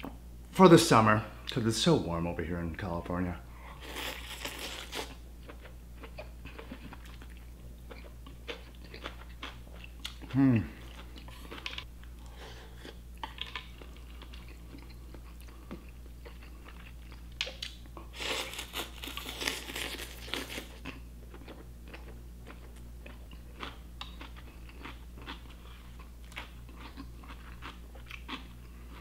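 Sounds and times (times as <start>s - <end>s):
steady low hum: 0.0s - 29.0s
chewing and crunching: 3.6s - 29.0s.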